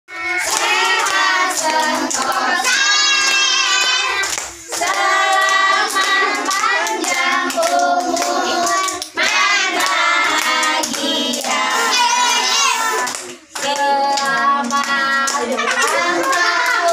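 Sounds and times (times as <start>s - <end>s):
children and women singing: 0.1s - 16.9s
people clapping: 0.1s - 16.9s.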